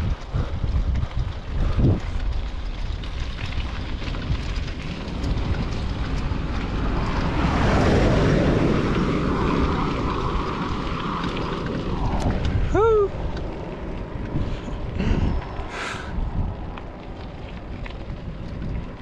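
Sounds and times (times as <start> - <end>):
car passing on dirt road: 0.0 - 19.0
wind rumbling on microphone: 0.0 - 19.0.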